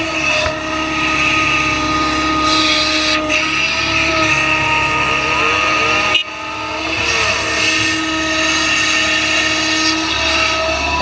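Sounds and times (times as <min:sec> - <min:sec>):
excavator diesel engine: 0:00.0 - 0:11.0
hydraulic whine: 0:00.0 - 0:11.0.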